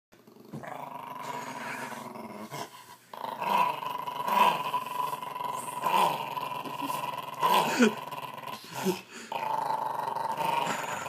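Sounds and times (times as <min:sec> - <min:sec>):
small dog growling: 0:00.3 - 0:11.0.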